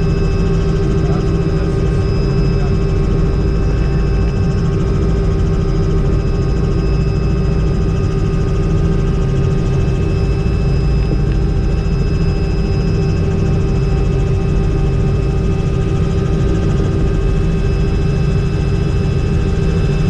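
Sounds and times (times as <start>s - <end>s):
helicopter rotor rumble: 0.0s - 20.0s
turbine whine: 0.0s - 20.0s.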